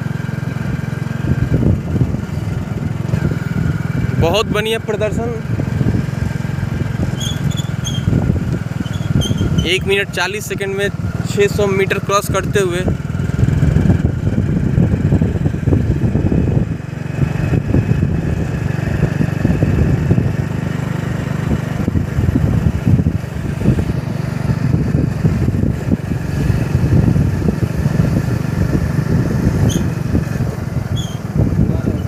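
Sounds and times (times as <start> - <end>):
motorcycle engine low rumble: 0.0 - 32.0.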